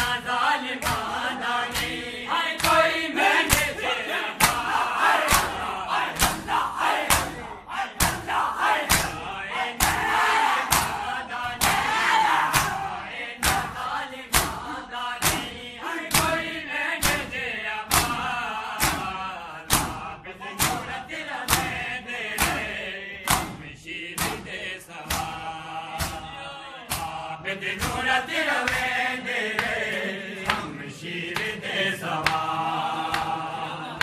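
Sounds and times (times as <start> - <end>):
men chanting: 0.0 - 34.0
men slapping chests in unison: 0.0 - 34.0.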